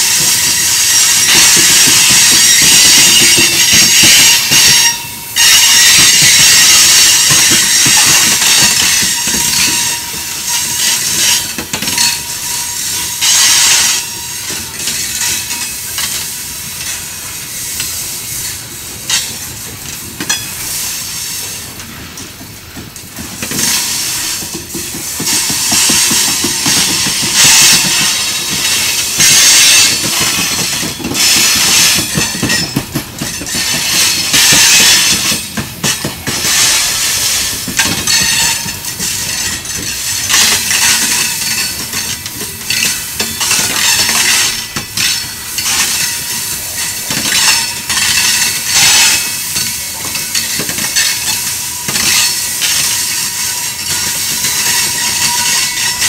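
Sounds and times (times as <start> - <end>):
metallic rushing of wheels on rails: 0.0 - 56.0
steel wheels clacking over rail joints: 0.0 - 56.0.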